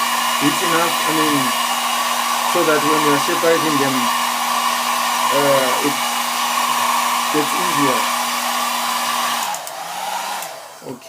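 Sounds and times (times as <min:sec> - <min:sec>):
hot-air blower hissing: 0:00.0 - 0:11.0.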